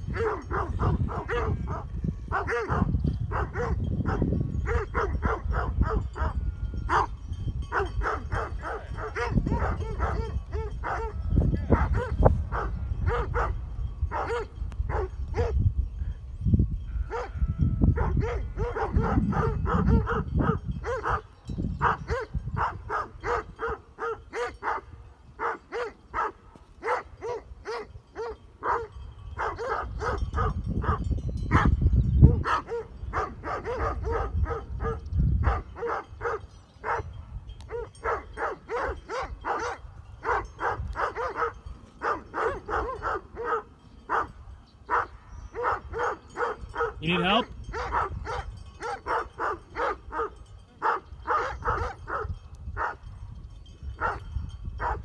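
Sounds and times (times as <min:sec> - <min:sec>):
dog barking: 0:00.1 - 0:07.1, 0:07.7 - 0:15.6, 0:17.1 - 0:37.1, 0:37.7 - 0:44.3, 0:44.9 - 0:47.0, 0:47.7 - 0:53.0, 0:54.0 - 0:55.0.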